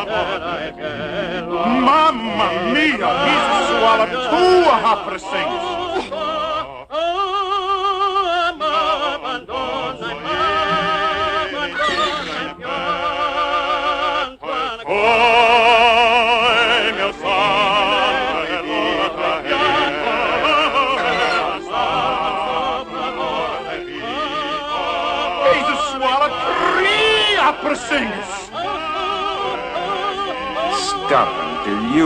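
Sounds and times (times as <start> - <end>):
operatic voices singing in harmony: 0.0 - 32.0.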